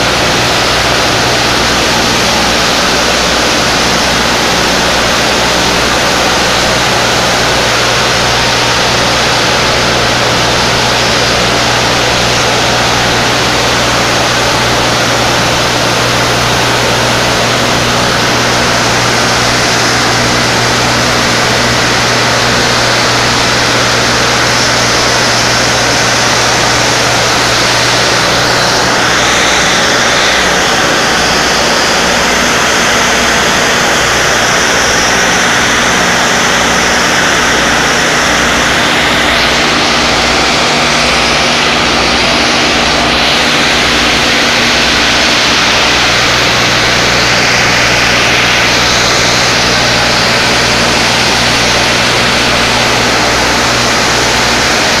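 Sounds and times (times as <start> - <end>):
low hum: 0.0 - 55.0
steam discharging rushing noise: 0.0 - 55.0.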